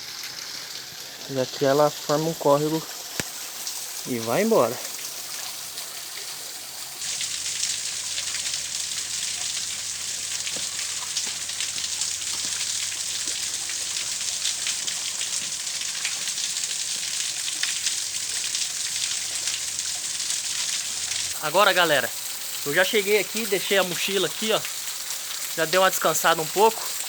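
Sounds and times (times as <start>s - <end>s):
waterfall splashing into pool: 0.0s - 27.0s.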